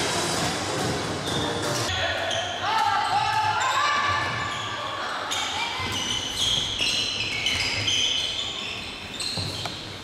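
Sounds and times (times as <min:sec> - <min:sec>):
shoes squeaking on sports floor: 0:01.0 - 0:10.0.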